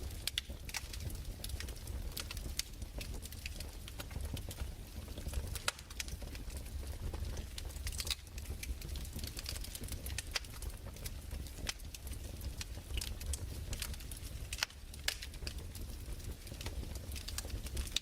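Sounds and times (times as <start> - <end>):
fireplace crackling and popping: 0.0 - 18.0.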